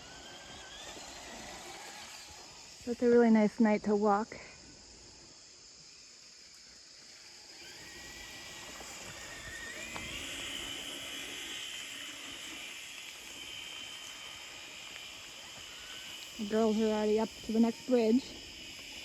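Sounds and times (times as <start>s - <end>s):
electric motor whining: 0.0s - 3.7s, 7.2s - 19.0s
crickets chirring: 0.0s - 19.0s.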